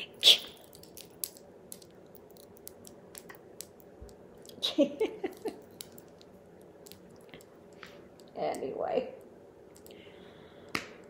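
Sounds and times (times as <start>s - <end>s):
faint clicks and handling noises: 0.6s - 4.6s, 5.2s - 11.0s.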